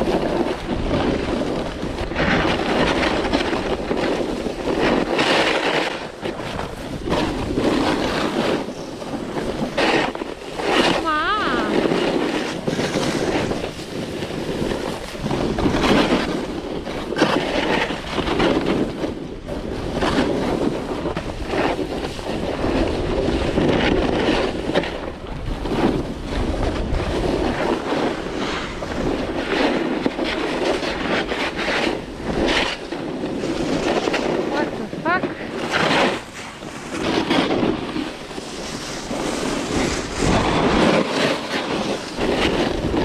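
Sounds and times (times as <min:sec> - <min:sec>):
ski edges scraping snow: 0:00.0 - 0:43.0
wind rushing over microphone: 0:00.0 - 0:43.0.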